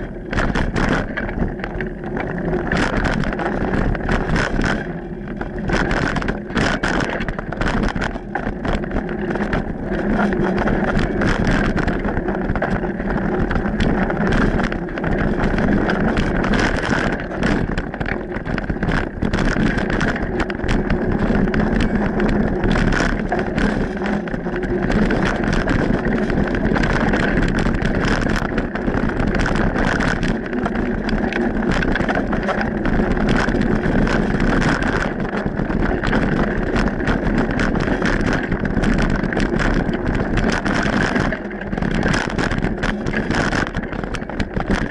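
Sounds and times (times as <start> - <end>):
bike rattles and clicks: 0.0 - 44.9
bike tyres rumbling on dirt: 0.0 - 44.9
wind on microphone: 0.0 - 44.9.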